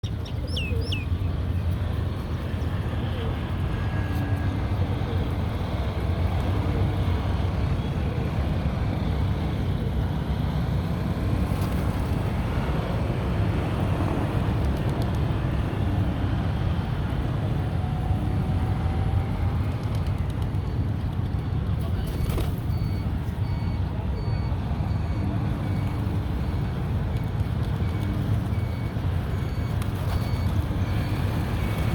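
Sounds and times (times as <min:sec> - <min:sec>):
distant road traffic rumble: 0:00.0 - 0:31.9.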